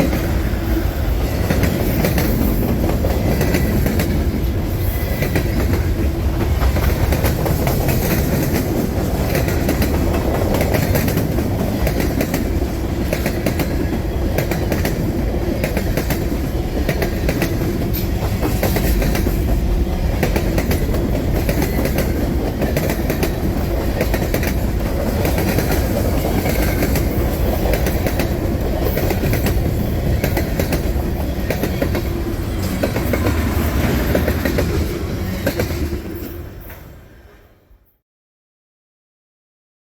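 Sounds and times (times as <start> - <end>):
freight train cars rumbling: 0.0 - 37.9
wheels clacking over rail joints: 1.2 - 37.0.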